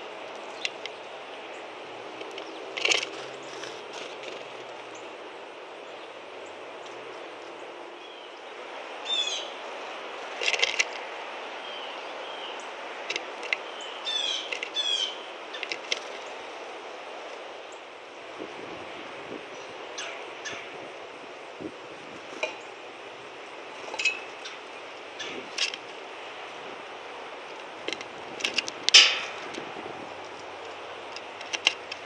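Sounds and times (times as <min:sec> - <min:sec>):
outdoor background noise: 0:00.0 - 0:32.0
songbirds calling: 0:00.0 - 0:32.0.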